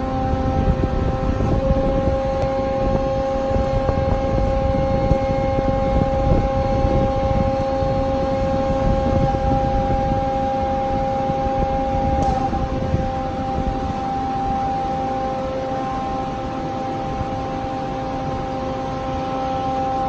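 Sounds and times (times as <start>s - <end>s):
band saw humming and whining: 0.0s - 20.0s.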